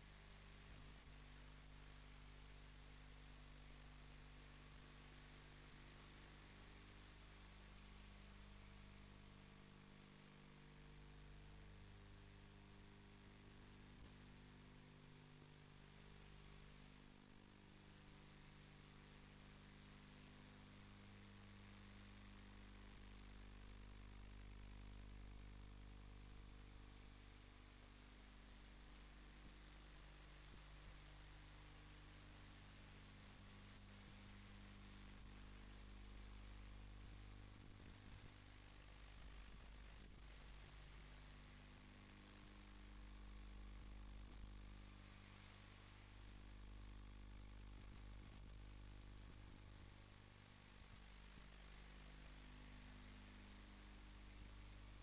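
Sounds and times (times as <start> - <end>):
constant hiss: 0.0 - 55.0
low electrical hum: 0.0 - 55.0.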